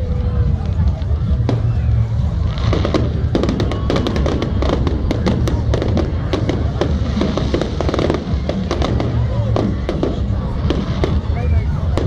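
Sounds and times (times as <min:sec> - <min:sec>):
fireworks crackling and banging: 0:00.0 - 0:12.0
low rumble: 0:00.0 - 0:12.0.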